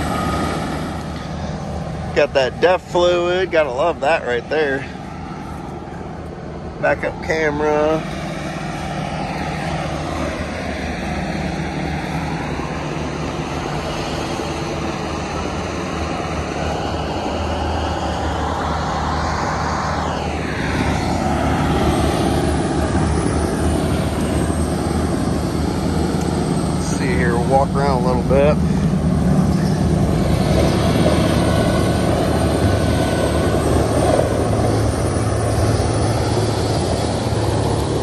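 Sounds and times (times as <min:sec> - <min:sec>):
heavy diesel machinery drone: 0:00.0 - 0:38.0.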